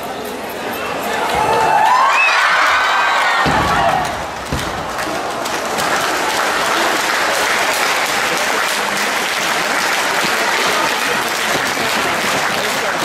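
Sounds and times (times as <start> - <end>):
audience applauding: 1.9 - 13.0.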